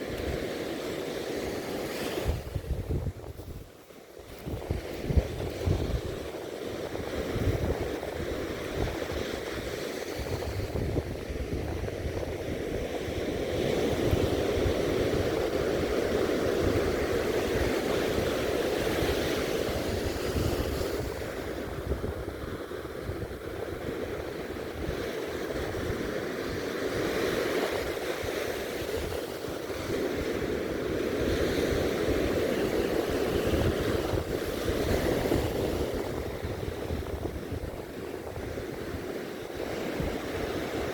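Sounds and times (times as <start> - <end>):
sea surf breaking on beach: 0.0 - 40.9
wind buffeting microphone: 0.0 - 40.9.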